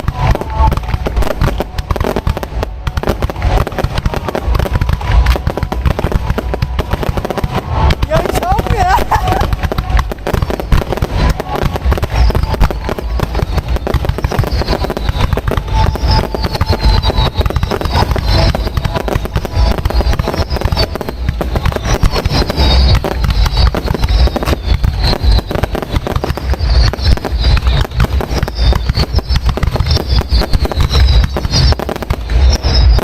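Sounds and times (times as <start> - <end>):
firework shell bursts and crackling: 0.0 - 33.0
high falling firework whistles: 0.0 - 33.0.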